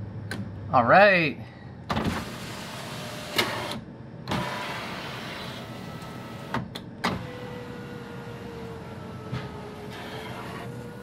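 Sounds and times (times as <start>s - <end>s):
power window motor humming: 2.0s - 11.0s.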